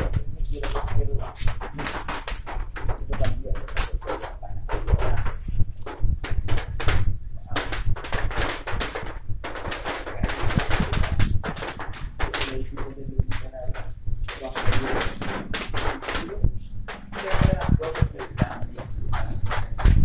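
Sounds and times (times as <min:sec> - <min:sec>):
arc welding crackling: 0:00.0 - 0:20.0.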